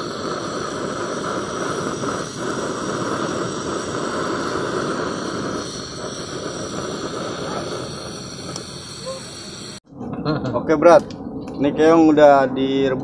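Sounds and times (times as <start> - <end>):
gas flame hissing: 0.0 - 13.0.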